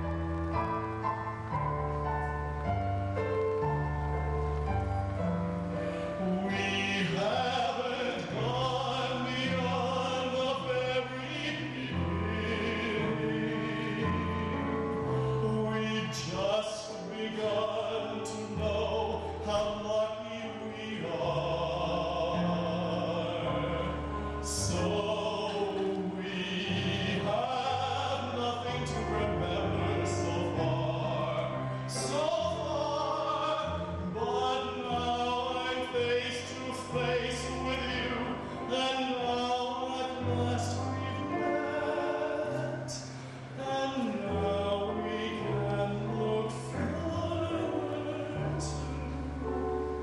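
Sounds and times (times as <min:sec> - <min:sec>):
man singing a ballad: 0:00.0 - 0:50.0.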